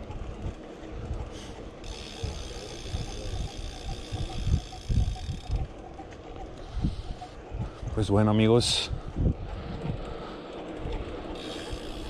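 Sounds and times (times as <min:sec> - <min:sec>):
tyres rolling on pavement: 0:00.0 - 0:12.0
wind buffeting microphone: 0:00.0 - 0:12.0.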